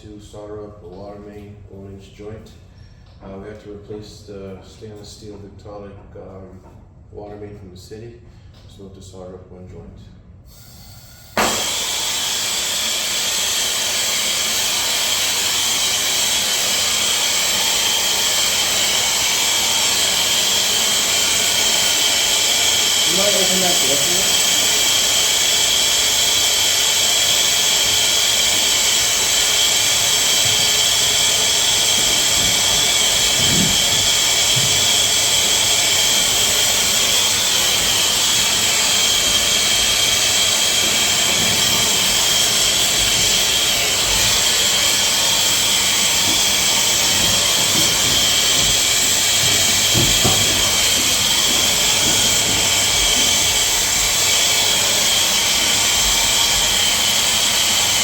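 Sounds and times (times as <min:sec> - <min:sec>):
gas torch hissing: 0:10.5 - 0:58.0.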